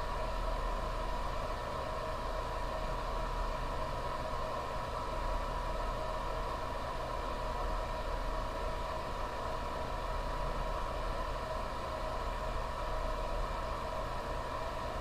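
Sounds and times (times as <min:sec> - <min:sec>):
steady hum and hiss: 0:00.0 - 0:15.0
thin constant whine: 0:00.0 - 0:15.0.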